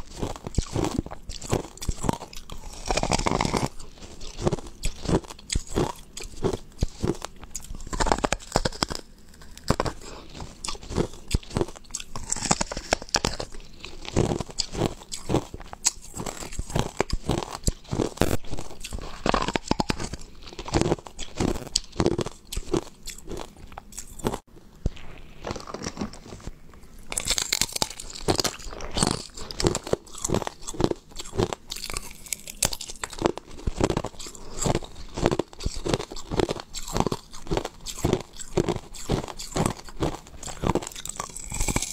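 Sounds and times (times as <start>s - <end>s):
person crunching ice: 0.0s - 41.9s.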